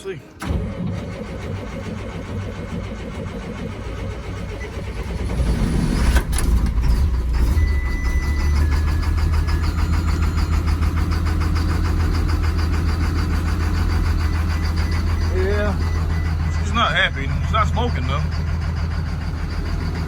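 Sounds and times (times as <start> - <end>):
diesel engine starting and idling: 0.0 - 20.0.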